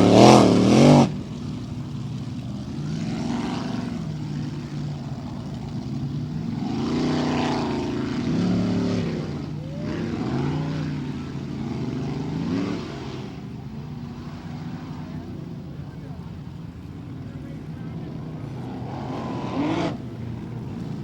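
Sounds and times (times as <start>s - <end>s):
racing boat engines revving: 0.0s - 21.0s.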